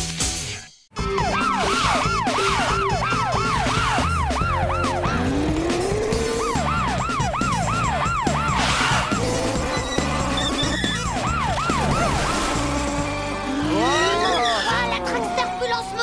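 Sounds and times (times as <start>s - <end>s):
background music: 0.0s - 16.0s
cartoon siren wailing: 1.0s - 16.0s.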